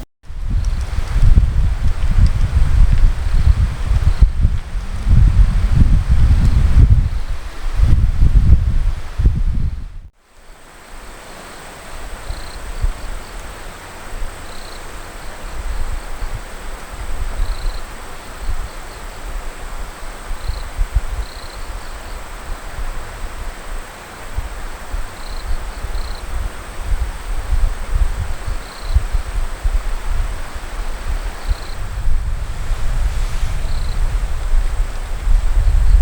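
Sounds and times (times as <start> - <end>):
wind buffeting microphone: 0.0 - 10.1, 15.0 - 36.0.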